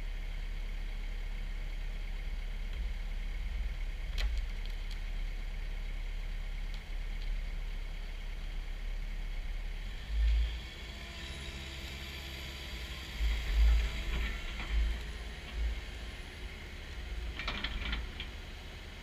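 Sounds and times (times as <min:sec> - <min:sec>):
diesel engine and hydraulics running: 0:00.0 - 0:19.0.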